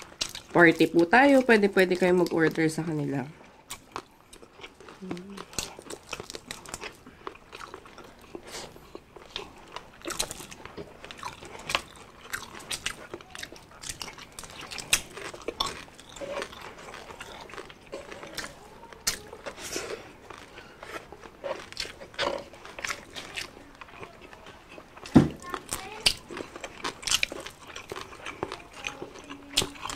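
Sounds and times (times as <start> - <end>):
crunching and chewing crispy food: 0.0 - 29.9.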